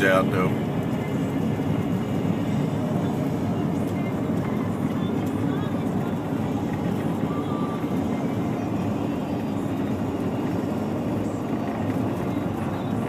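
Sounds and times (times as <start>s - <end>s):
road and engine noise inside car: 0.0s - 13.0s.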